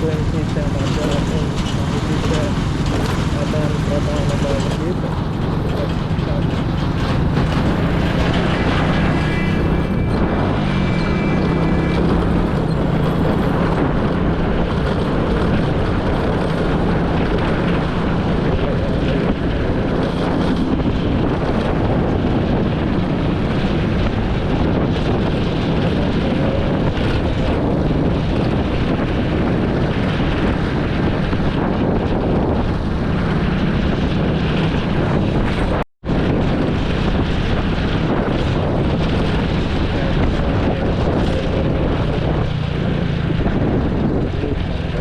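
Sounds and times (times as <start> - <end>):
vehicle engine running: 0.0 - 45.0
wind rush on microphone: 0.0 - 45.0.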